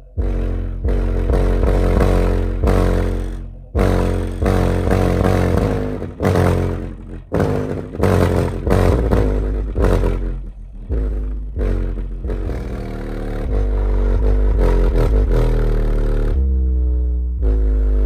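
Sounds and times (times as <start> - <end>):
subwoofer playing bass notes: 0.0 - 18.0.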